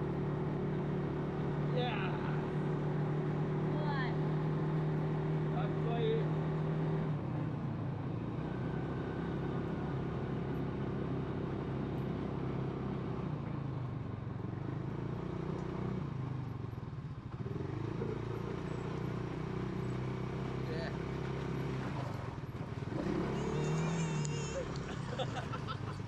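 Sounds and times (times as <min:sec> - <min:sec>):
buggy engine running: 0:00.0 - 0:26.0.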